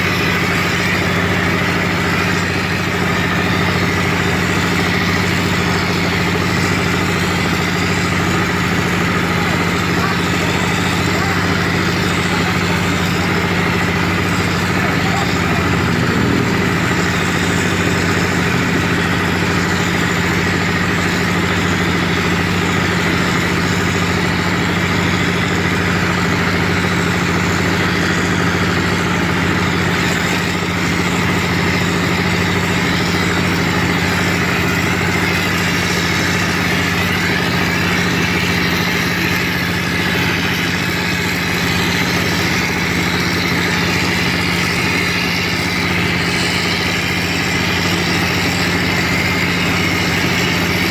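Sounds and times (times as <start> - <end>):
plastering machine droning: 0.0 - 50.9.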